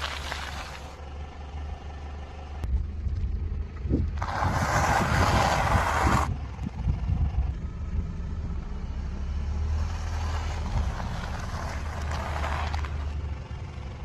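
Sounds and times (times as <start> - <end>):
car low rumble: 0.0 - 14.0.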